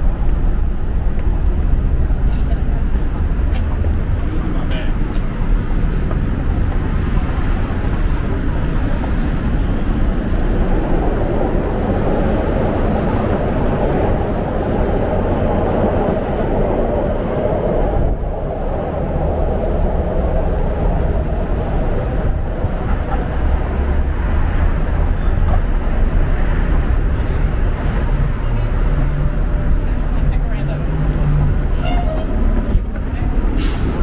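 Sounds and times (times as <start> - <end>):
city street traffic rumble: 0.0 - 34.0.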